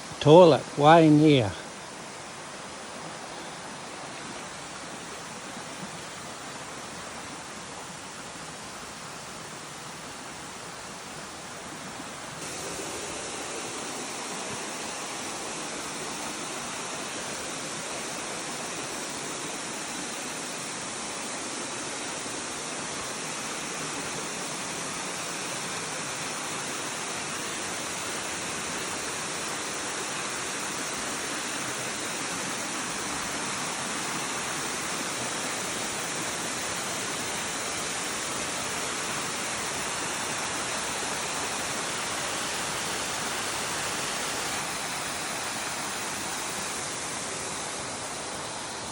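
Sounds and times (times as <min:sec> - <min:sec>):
rushing water: 0:00.0 - 0:48.9.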